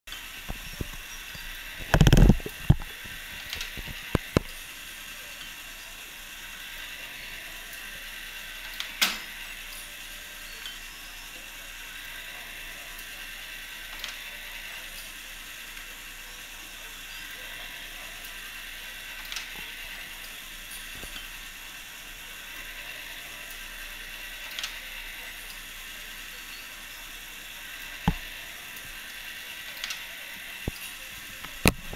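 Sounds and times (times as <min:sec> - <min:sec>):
model engine whirring: 0:00.1 - 0:31.9.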